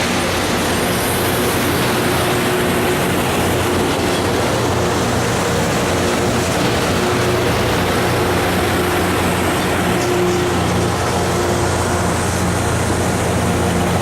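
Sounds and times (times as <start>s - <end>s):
diesel engine hum: 0.0s - 14.0s
loud rushing noise: 0.0s - 14.0s.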